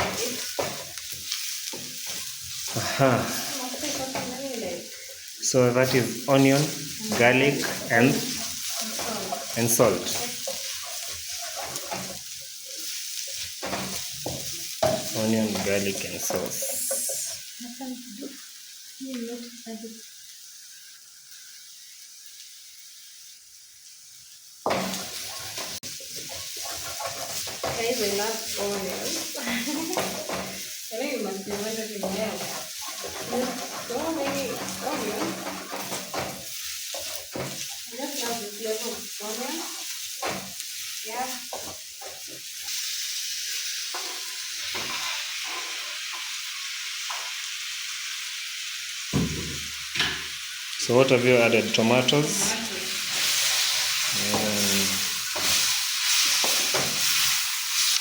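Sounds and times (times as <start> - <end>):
onions sizzling in hot oil: 0.0 - 58.0.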